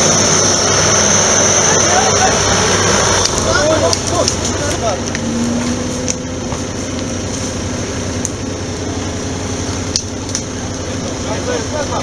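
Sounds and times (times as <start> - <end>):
suv engine rumbling at low revs: 0.0 - 12.0.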